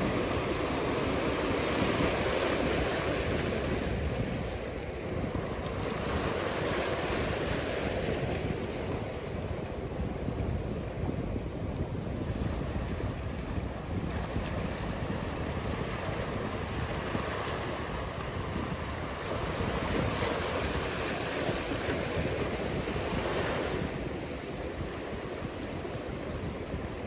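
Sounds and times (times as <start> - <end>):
ocean waves rushing: 0.0 - 27.0.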